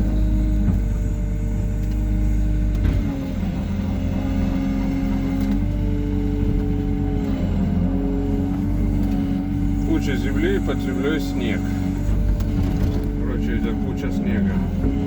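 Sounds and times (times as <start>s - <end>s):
diesel engine rumble: 0.0s - 15.0s
hydraulic whine: 0.0s - 15.0s.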